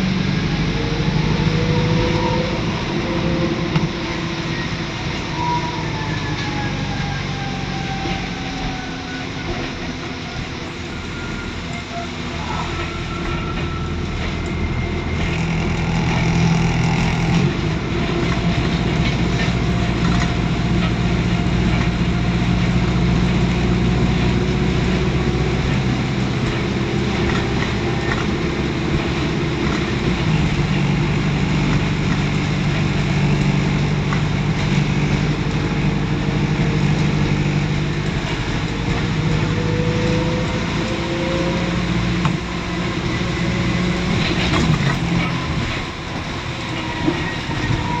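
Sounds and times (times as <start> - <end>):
bus diesel engine running: 0.0 - 48.0.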